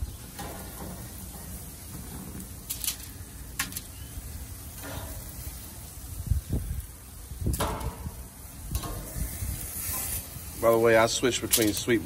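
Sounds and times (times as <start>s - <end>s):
tongs clicking and scraping on grill: 0.1s - 12.0s.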